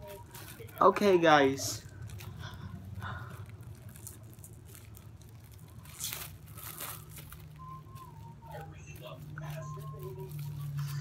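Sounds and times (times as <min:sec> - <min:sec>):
paper napkin rustling: 0:00.0 - 0:11.0.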